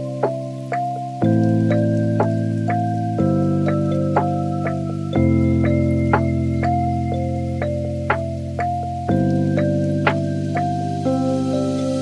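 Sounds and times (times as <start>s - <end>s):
keyboard chords music: 0.0s - 12.0s.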